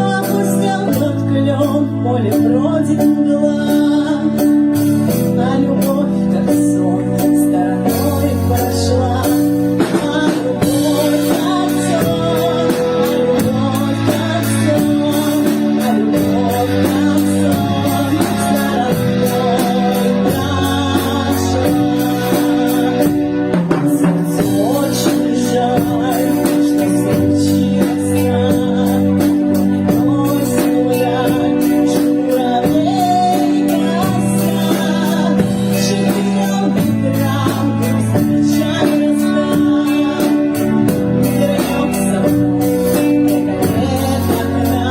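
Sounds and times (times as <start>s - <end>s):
pop song with guitar and keyboard: 0.0s - 44.9s.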